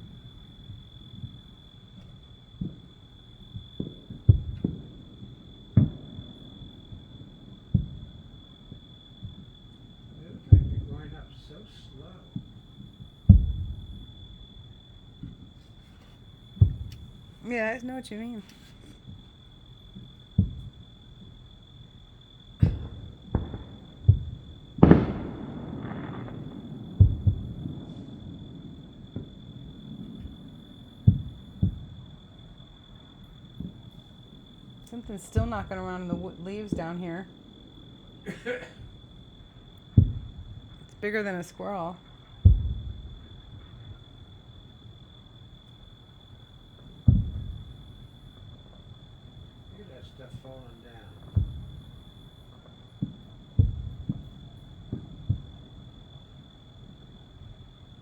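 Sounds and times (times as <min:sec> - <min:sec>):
distant fireworks booming: 0:00.0 - 0:58.0.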